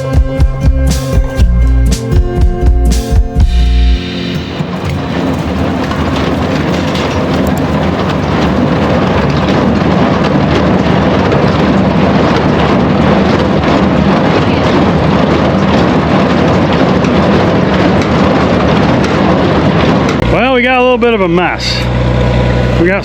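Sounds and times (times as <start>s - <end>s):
tractor and baler mechanical din: 0.0s - 23.0s.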